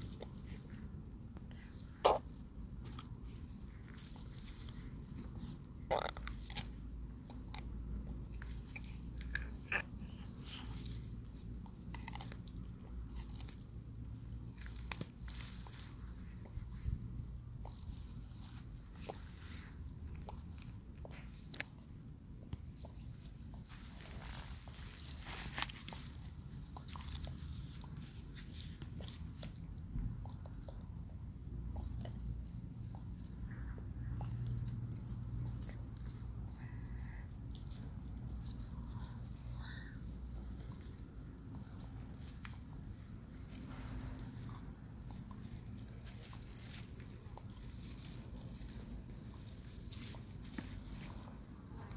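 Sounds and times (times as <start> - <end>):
tortoise crunching food: 0.0 - 51.9.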